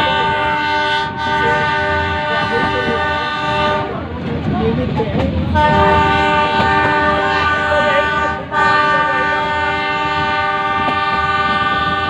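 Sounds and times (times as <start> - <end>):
train horn blasts: 0.0 - 4.0, 5.5 - 12.0
train rumbling: 0.0 - 12.0.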